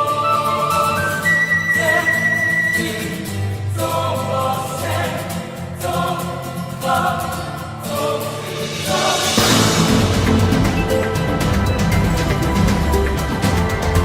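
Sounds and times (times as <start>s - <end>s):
choir singing held chords: 0.0s - 2.3s, 3.0s - 14.0s.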